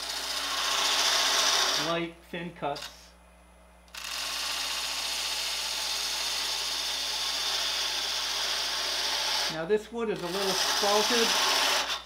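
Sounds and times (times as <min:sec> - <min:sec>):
lathe humming: 0:00.0 - 0:02.0, 0:03.9 - 0:12.0
parting tool cutting wood: 0:00.0 - 0:02.0, 0:03.9 - 0:12.0.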